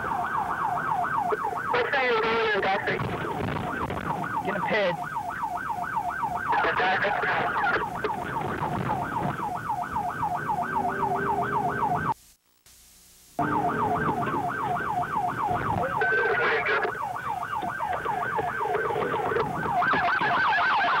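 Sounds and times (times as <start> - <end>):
police siren yelping: 0.0 - 12.2, 13.4 - 21.0.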